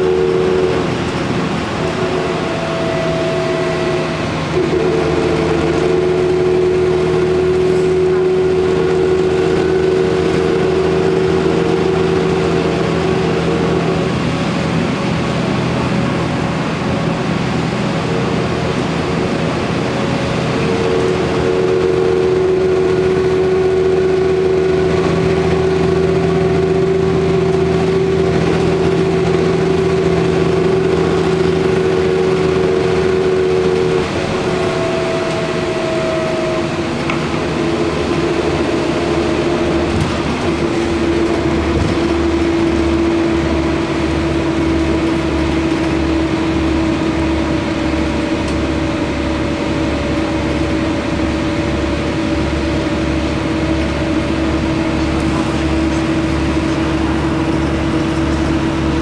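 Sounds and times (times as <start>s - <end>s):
road and tyre noise: 0.0s - 59.0s
vehicle drive whine: 0.0s - 59.0s.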